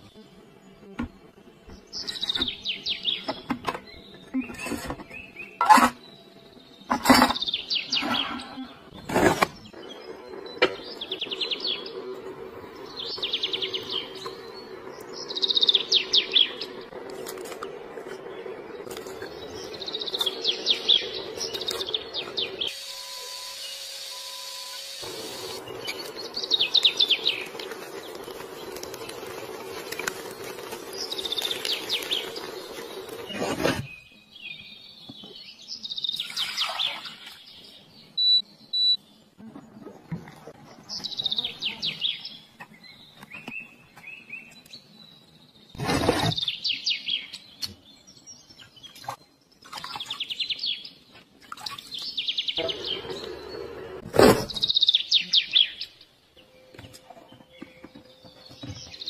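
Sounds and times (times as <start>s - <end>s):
small birds chirping: 0.0s - 22.8s, 25.0s - 59.0s.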